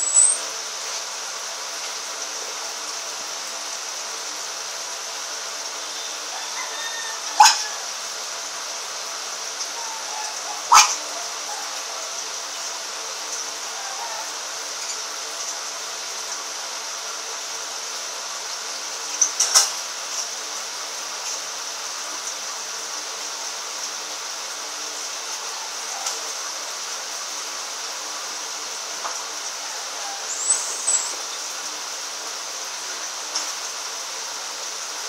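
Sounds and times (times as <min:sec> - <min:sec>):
room noise hiss: 0:00.0 - 0:35.0.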